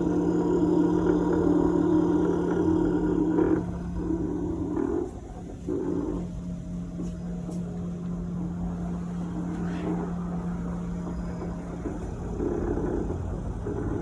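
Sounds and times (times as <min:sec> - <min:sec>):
groaning scrape: 0:00.0 - 0:14.0
refrigerator compressor humming: 0:00.0 - 0:14.0.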